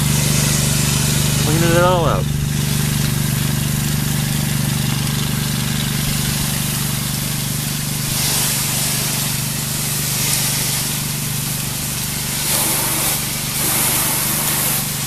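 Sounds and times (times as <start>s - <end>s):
high-pressure water spray hiss: 0.0s - 15.0s
pressure washer engine running: 0.0s - 15.0s.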